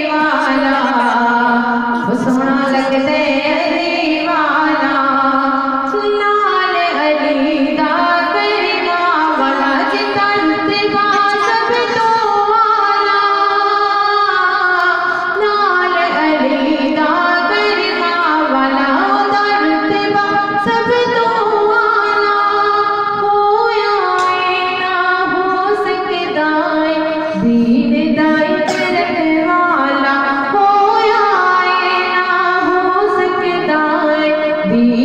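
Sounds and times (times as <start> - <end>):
solo voice singing: 6.0 - 35.0.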